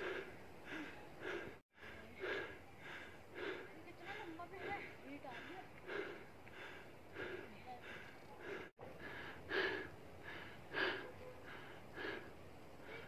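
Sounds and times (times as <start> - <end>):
person gasping: 0.0 - 13.0
person panting heavily: 0.0 - 13.0.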